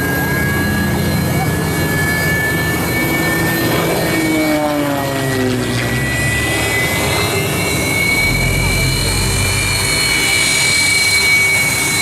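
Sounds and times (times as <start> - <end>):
jet engine whine spooling up: 0.0 - 12.0
lower tones gliding downward: 0.0 - 12.0.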